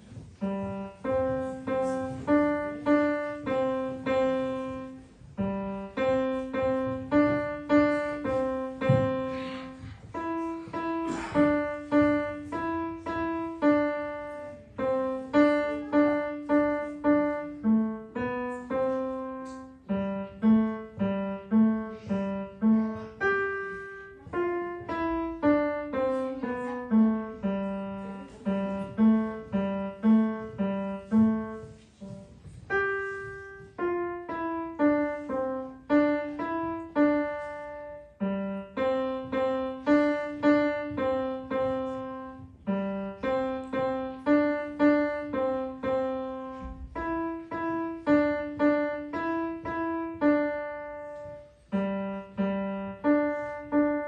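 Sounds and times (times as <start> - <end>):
digital piano melody: 0.0 - 54.0.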